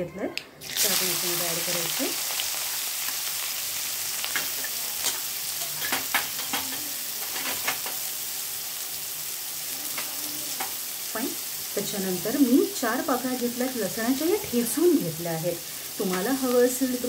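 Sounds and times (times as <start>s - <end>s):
food sizzling in hot oil: 0.6s - 17.0s.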